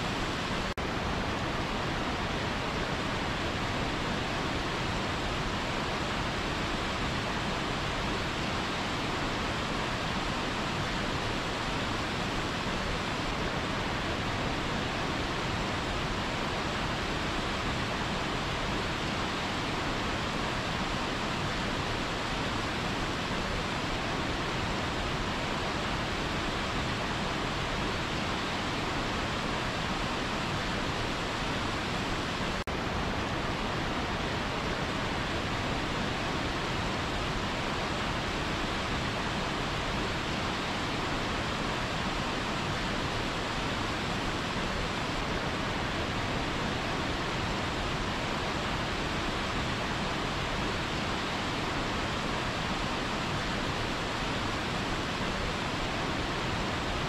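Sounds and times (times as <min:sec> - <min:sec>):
waterfall rushing into a pool: 0:00.0 - 0:57.0.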